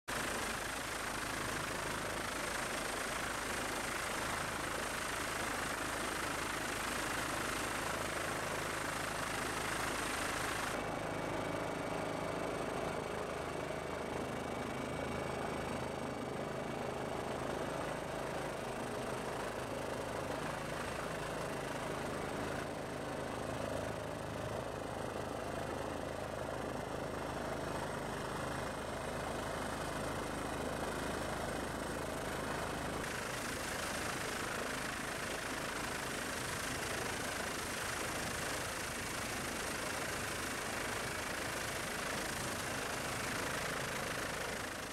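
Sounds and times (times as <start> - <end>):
helicopter drone: 0.1 - 44.9.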